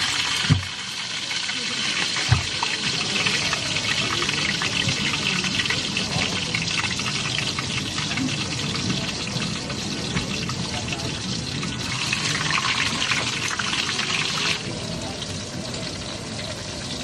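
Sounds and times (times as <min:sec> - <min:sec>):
oil sizzling in a frying pan: 0:00.0 - 0:17.0.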